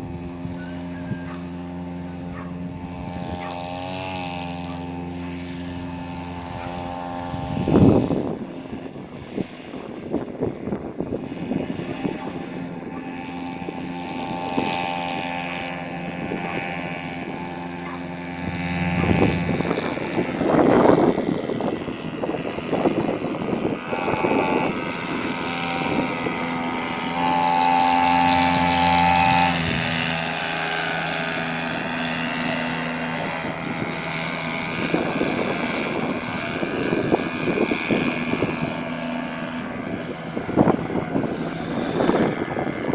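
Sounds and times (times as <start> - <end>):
outboard motor running: 0.0 - 42.9.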